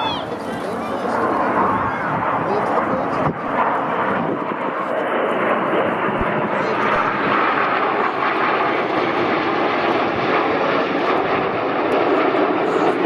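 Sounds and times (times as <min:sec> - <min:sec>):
jets flying overhead: 0:00.0 - 0:13.0.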